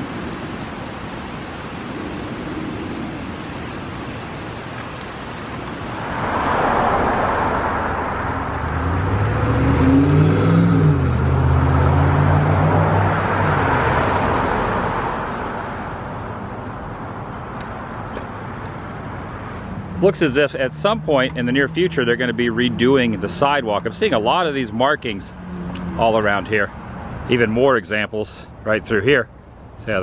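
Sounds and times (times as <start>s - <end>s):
vehicles passing by: 0.0s - 30.0s.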